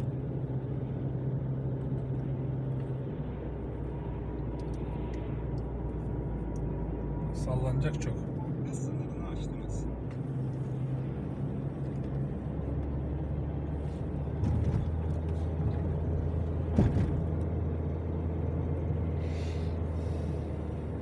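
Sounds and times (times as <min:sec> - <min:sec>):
car driving heard from cabin: 0:00.0 - 0:21.0.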